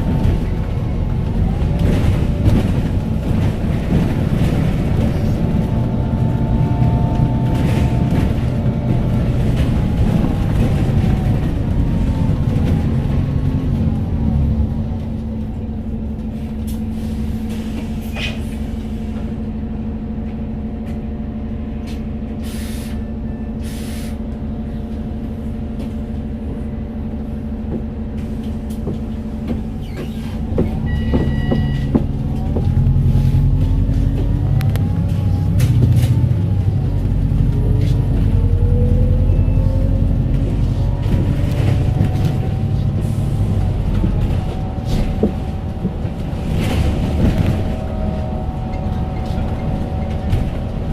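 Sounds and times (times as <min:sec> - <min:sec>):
bus engine: 0:00.0 - 0:50.9.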